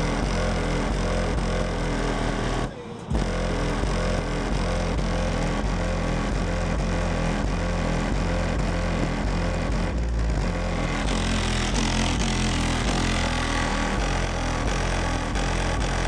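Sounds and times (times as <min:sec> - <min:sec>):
deep bass from subwoofers: 0:00.0 - 0:16.0.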